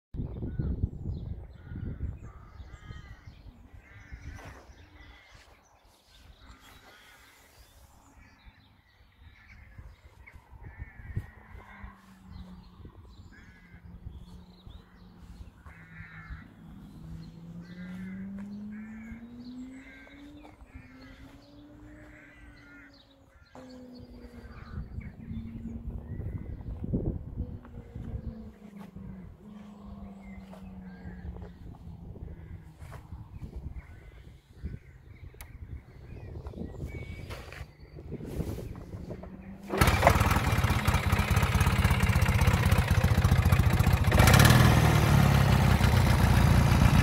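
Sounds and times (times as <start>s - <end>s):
crows cawing: 1.6s - 5.6s, 6.4s - 26.6s, 27.8s - 36.2s, 39.4s - 44.5s.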